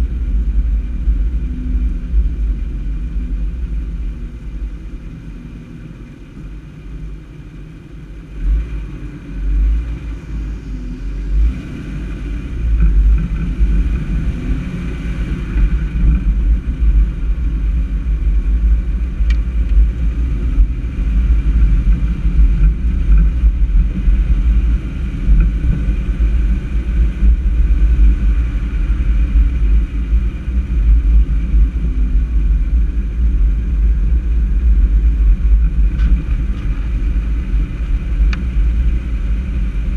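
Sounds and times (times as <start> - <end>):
vehicle running noise: 0.0 - 39.9
wind buffeting microphone: 0.0 - 39.9.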